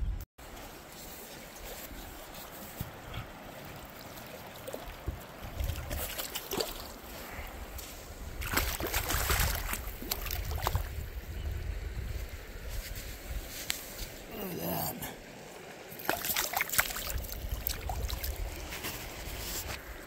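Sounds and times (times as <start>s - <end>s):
water splashing in shallow river: 0.4s - 20.0s.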